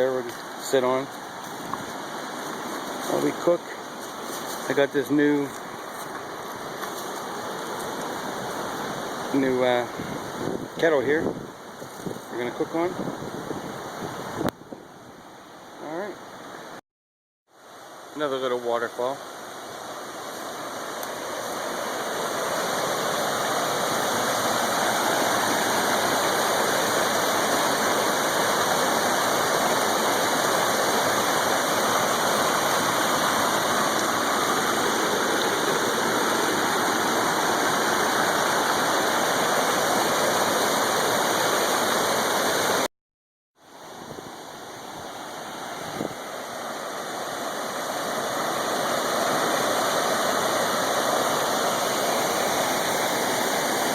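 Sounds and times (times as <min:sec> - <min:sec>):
small waterfall rushing: 0:00.0 - 0:14.5, 0:17.5 - 0:42.9, 0:43.6 - 0:53.9.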